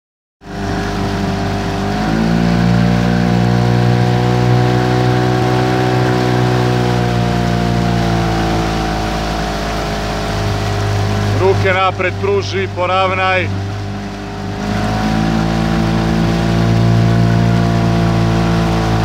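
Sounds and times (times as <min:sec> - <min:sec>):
outboard motor droning: 0:00.4 - 0:19.0.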